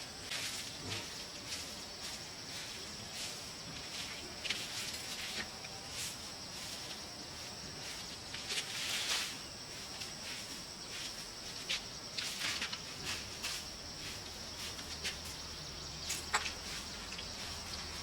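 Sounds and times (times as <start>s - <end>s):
insects droning: 0.0s - 18.0s
rustles and knocks: 0.2s - 7.0s, 8.0s - 18.0s.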